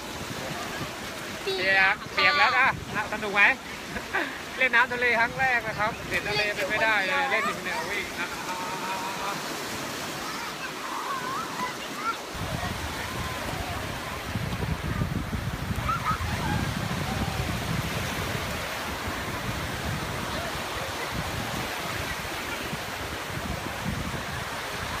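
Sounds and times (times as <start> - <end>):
wind buffeting microphone: 0.0 - 8.3, 12.3 - 25.0
small waves breaking on sand: 0.0 - 25.0.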